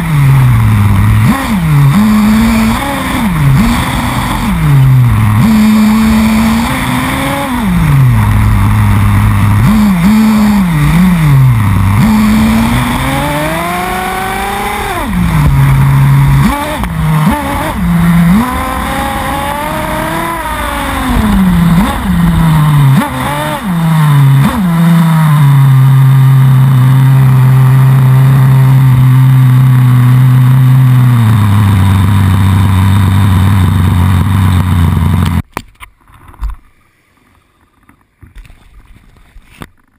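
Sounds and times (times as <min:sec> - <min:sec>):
small model car engine revving: 0:00.0 - 0:35.4.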